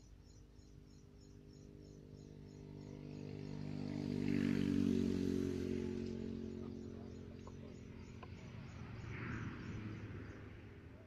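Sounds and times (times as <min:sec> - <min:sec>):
engine passing by: 0:01.4 - 0:11.0.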